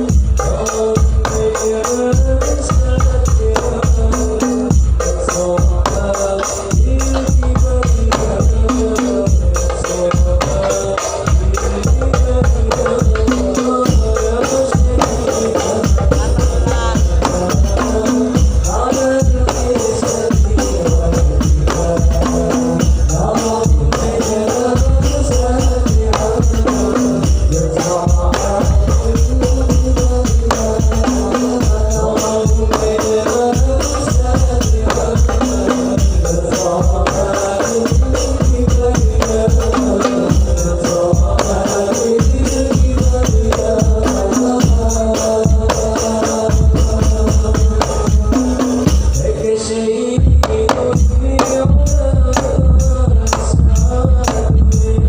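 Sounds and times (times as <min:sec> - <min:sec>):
deep drum beats: 0:00.0 - 0:49.5, 0:50.2 - 0:55.0
jingling frame drums: 0:00.0 - 0:55.0.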